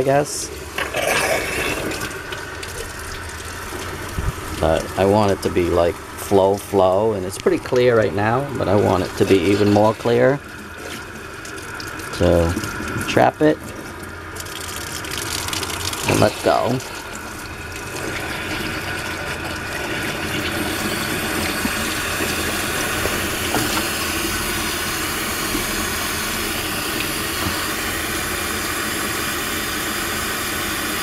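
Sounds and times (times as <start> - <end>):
water rushing from hose: 0.0 - 31.0.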